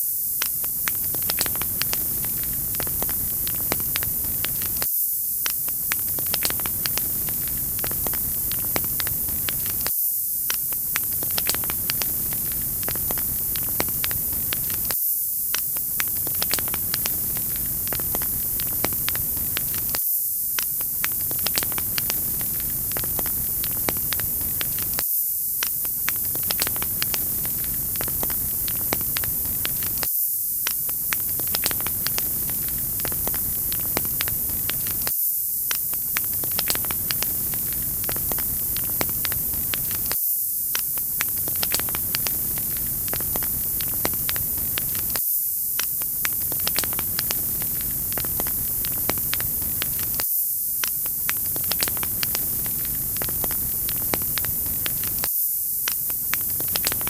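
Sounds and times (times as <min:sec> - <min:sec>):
wood fire crackling: 0:00.4 - 0:04.8, 0:05.4 - 0:09.9, 0:10.5 - 0:20.0, 0:20.6 - 0:25.0, 0:25.7 - 0:30.1, 0:30.7 - 0:35.1, 0:35.7 - 0:40.2, 0:40.9 - 0:45.2, 0:46.0 - 0:50.2, 0:51.0 - 0:55.3, 0:56.2 - 0:57.0.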